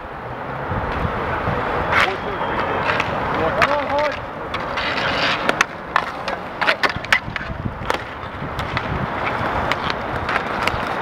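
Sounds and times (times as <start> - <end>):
inline skate wheels rolling: 0.0 - 11.0
hockey sticks and puck clacking: 1.8 - 11.0.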